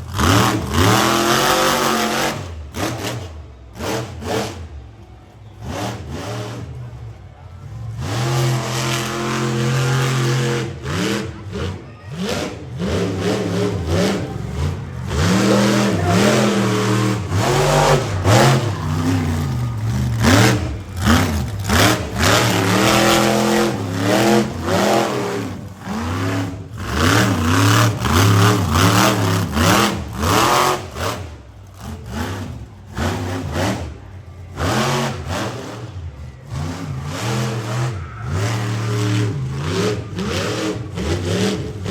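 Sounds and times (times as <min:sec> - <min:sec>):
monster truck engine revving: 0:00.0 - 0:41.9.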